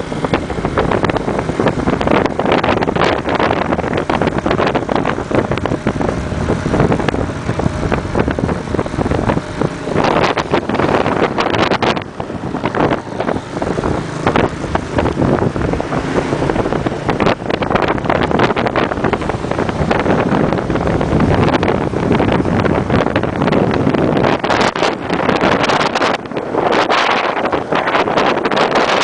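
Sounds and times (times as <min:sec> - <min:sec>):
motorbike running: 0:00.0 - 0:29.0
wind buffeting microphone: 0:00.0 - 0:29.0.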